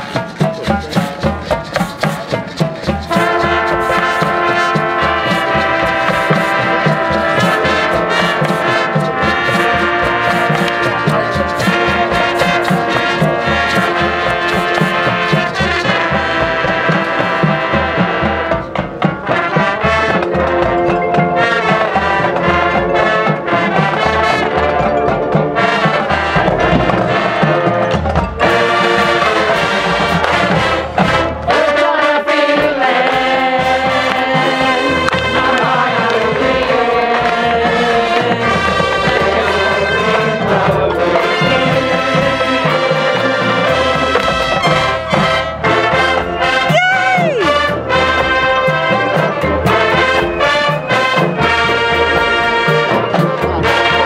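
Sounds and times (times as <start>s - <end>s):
marimbas: 0.0s - 30.8s, 33.7s - 54.0s
marching drums: 0.0s - 54.0s
brass playing: 2.8s - 54.0s.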